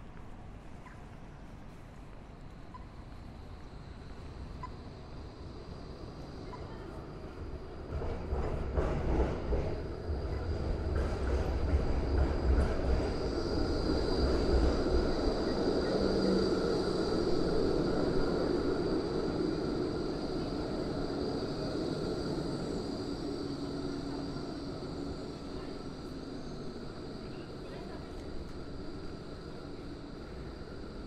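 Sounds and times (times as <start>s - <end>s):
tram running on rails: 0.0s - 31.0s.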